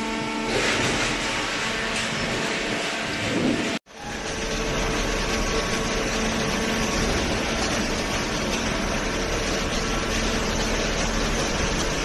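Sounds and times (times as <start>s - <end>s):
hydraulic baling press drone: 0.0s - 12.0s
motor and pump hum: 0.0s - 12.0s.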